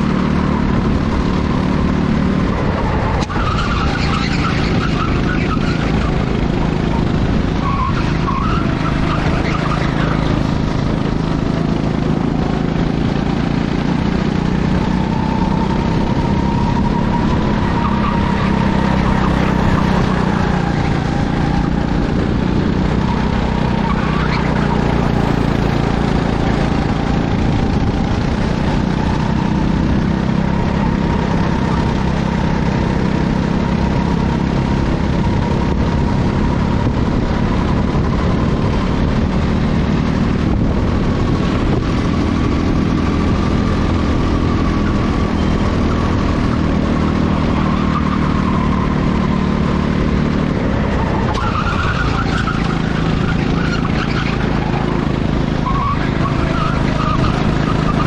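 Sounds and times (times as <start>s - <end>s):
go-kart engines running: 0.0s - 58.0s.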